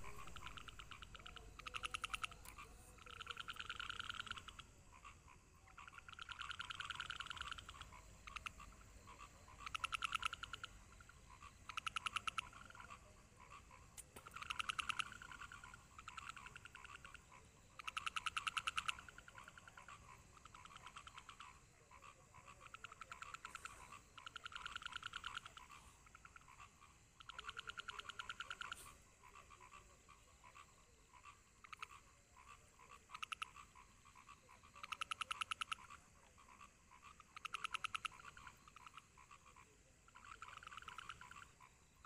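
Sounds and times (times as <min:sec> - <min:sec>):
frogs croaking: 0:00.0 - 0:42.0.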